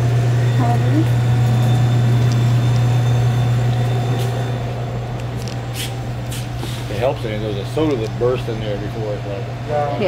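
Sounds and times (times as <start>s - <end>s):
vending machine refrigeration hum: 0.0s - 10.0s.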